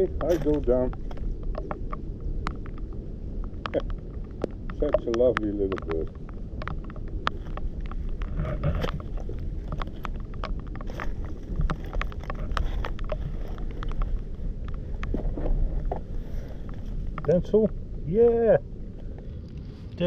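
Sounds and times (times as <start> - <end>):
low rumble: 0.0 - 20.0
wind buffeting microphone: 0.0 - 20.0.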